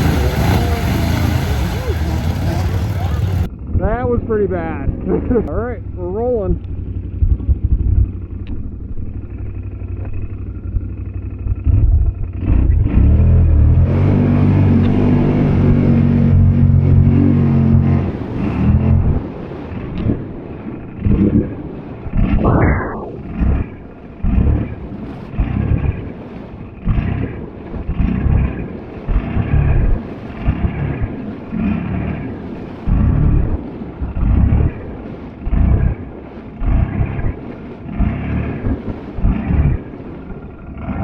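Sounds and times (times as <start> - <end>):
atv engine rumbling: 0.0 - 41.0.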